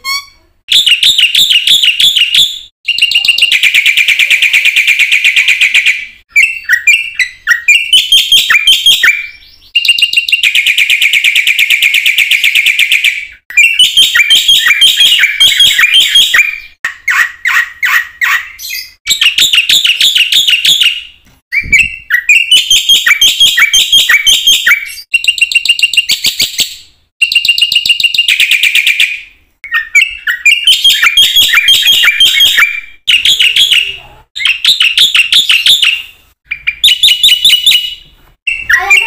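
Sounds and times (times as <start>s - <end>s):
starling chirping: 0.0s - 39.0s.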